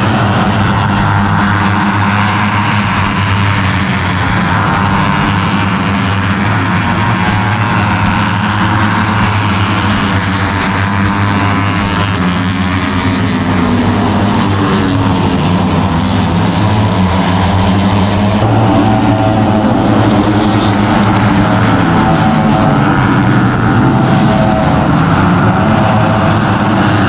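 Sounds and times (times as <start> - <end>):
motorcycle engines running: 0.0 - 27.0.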